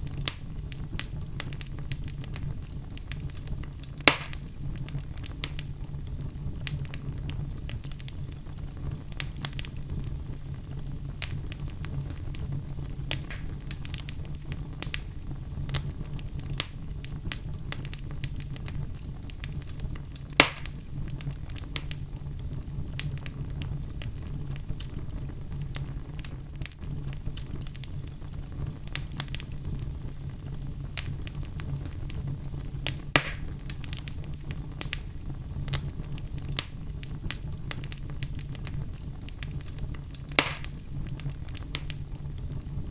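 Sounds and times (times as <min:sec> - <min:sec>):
low fire rumble: 0:00.0 - 0:42.9
wood fire crackling and popping: 0:00.0 - 0:42.9.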